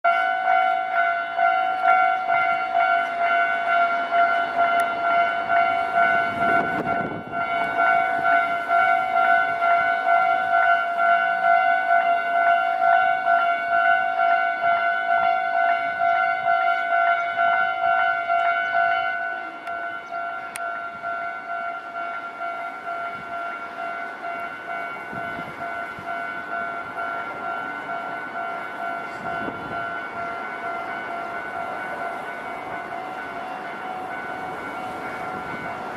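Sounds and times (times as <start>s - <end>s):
level crossing bell clanging: 0.1s - 35.9s.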